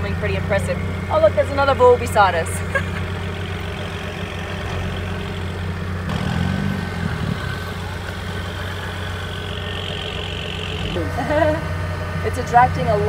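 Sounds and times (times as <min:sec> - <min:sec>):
sports car engine running: 0:00.0 - 0:13.0.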